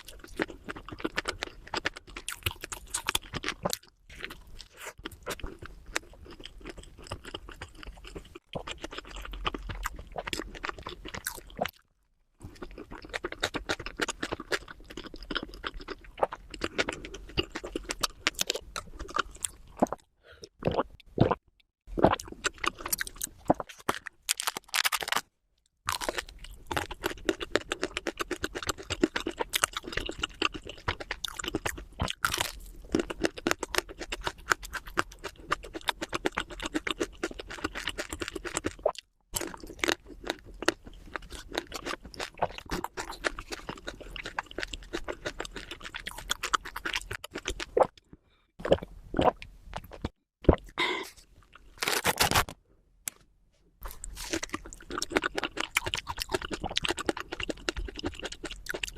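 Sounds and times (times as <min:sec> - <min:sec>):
chewing and crunching food: 0:00.0 - 0:53.2, 0:53.8 - 0:58.9.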